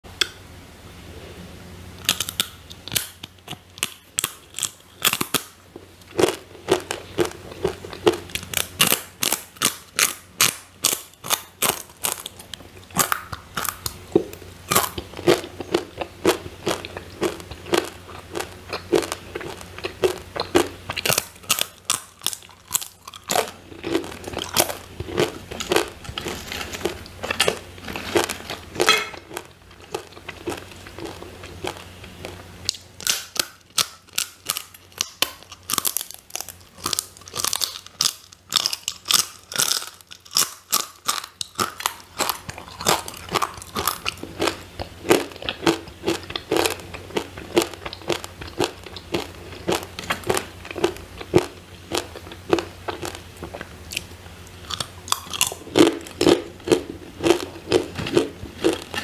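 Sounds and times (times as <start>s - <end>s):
chips being crunched and chewed: 2.1s - 14.0s, 14.7s - 59.0s.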